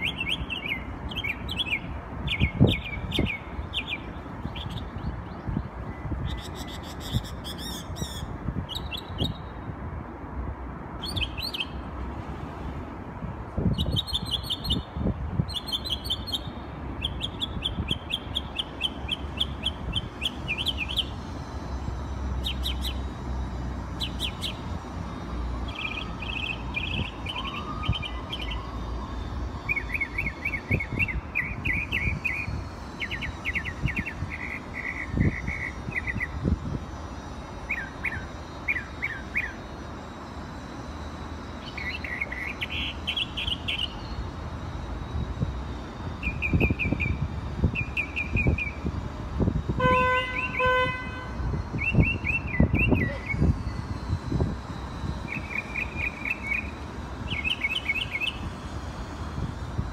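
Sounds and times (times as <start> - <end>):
songbird singing: 0.0 - 9.7, 11.0 - 11.9, 13.6 - 28.9, 29.6 - 36.6, 37.2 - 45.4, 46.1 - 49.0, 49.8 - 54.1, 54.8 - 59.2.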